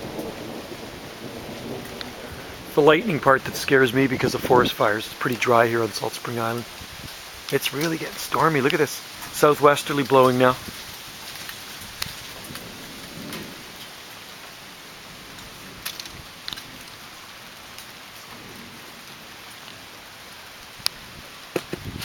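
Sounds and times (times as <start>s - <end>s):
sharp raindrop impacts: 0.0s - 22.0s
steady rain falling: 0.0s - 22.0s.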